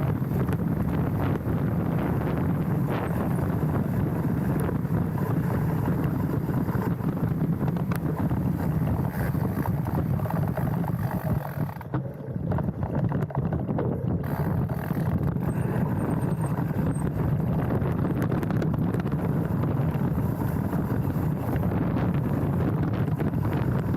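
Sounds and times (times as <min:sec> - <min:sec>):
bike clicks and rattles: 0:00.0 - 0:23.9
bike tyres rolling on dirt: 0:00.0 - 0:23.9
wind buffeting microphone: 0:00.0 - 0:23.9.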